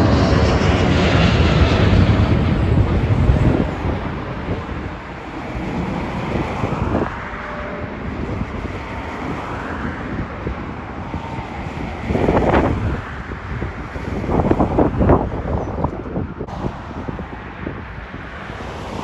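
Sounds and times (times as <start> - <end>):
jet airliner engine rumble: 0.0 - 19.0
road traffic: 0.0 - 19.0
wind noise: 0.0 - 19.0.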